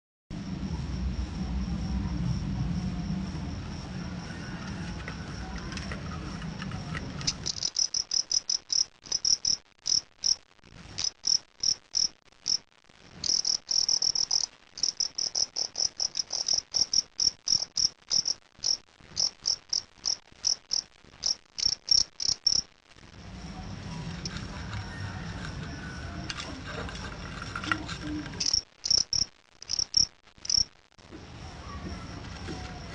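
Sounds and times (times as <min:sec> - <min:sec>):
cricket chirping: 0:00.3 - 0:32.9.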